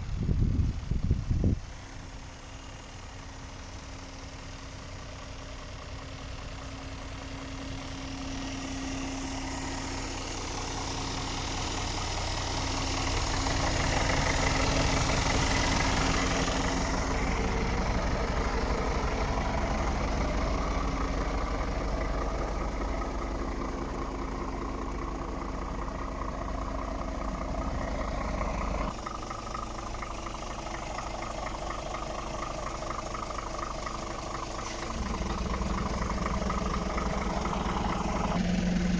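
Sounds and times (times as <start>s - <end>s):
diesel truck engine idling: 0.0s - 38.9s
hiss: 1.6s - 21.0s, 26.5s - 38.9s.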